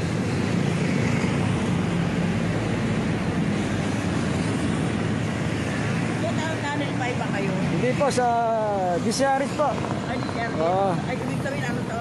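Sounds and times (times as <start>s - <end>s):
motorcycles and cars passing: 0.0s - 12.0s.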